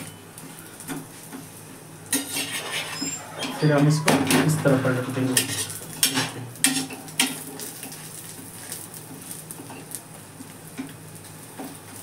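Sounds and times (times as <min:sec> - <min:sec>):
flatbread sizzling in pan: 0:00.0 - 0:03.2, 0:05.3 - 0:12.0.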